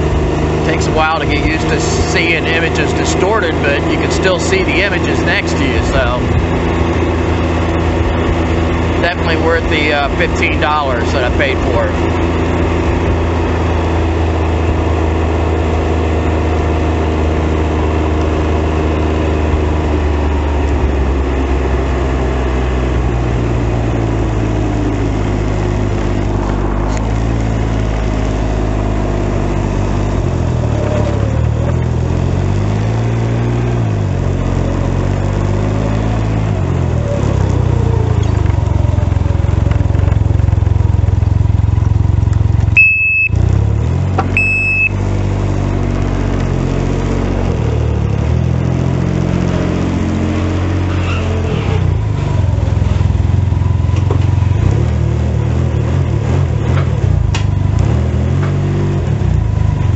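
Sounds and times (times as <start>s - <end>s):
three-cylinder engine running: 0.0s - 59.9s.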